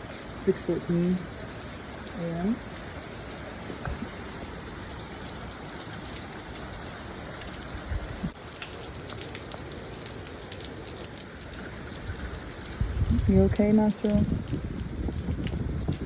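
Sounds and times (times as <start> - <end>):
rain hissing: 0.0 - 16.0
wind: 0.0 - 16.0.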